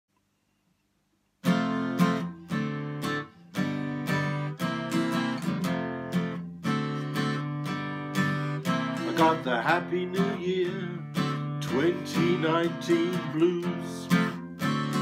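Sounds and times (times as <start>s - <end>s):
acoustic guitar strumming: 1.4s - 15.0s.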